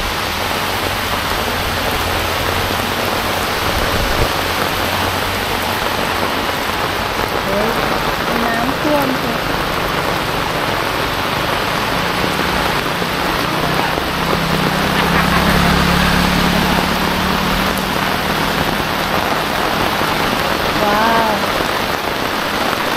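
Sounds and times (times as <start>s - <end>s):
heavy rain on pavement: 0.0s - 22.9s
small motorcycle engine passing: 0.0s - 22.9s.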